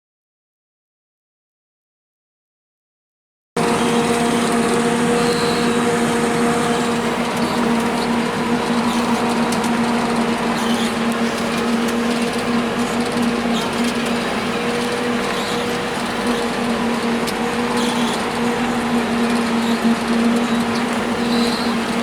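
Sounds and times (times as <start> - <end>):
heavy farm machinery running: 3.6 - 22.0.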